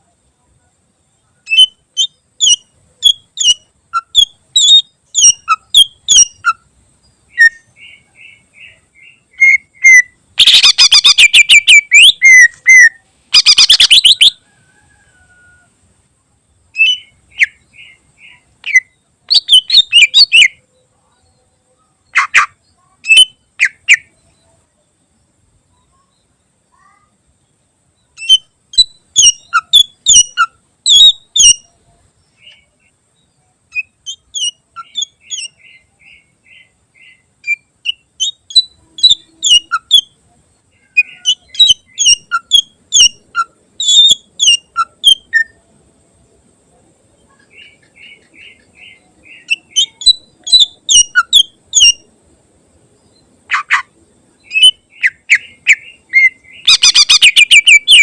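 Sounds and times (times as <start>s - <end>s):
bird singing: 0.0s - 52.2s, 52.8s - 58.0s
bird trill: 1.2s - 15.7s, 16.7s - 24.6s, 28.0s - 45.6s, 47.3s - 52.1s, 53.0s - 58.0s.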